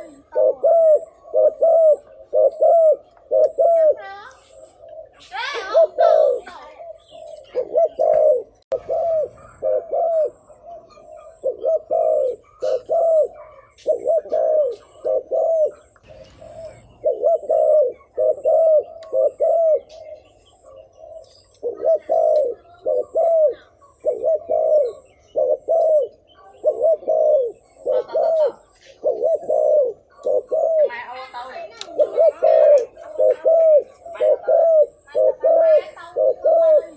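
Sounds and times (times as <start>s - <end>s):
dove cooing rapidly: 0.0s - 36.9s.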